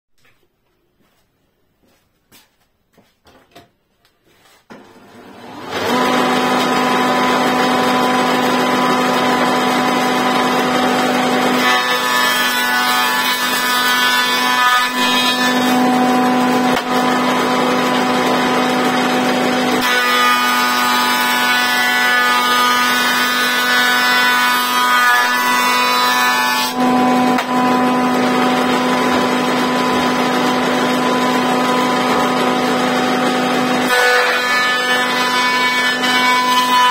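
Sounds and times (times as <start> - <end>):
woodworking machine motor humming: 4.7 - 36.9.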